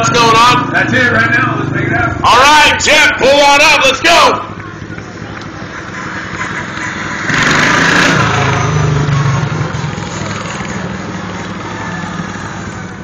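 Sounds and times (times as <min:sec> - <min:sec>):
lawn mower engines revving: 0:00.0 - 0:13.0.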